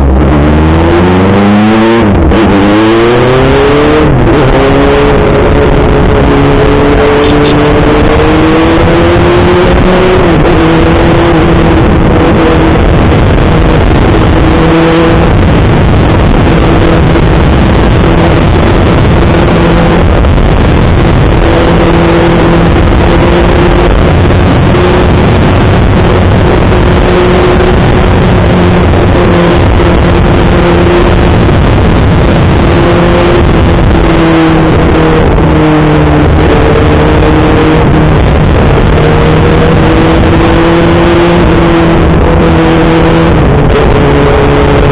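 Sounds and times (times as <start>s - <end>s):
dense rushing noise: 0.0s - 44.9s
motorcycle engine at high speed: 0.0s - 44.9s.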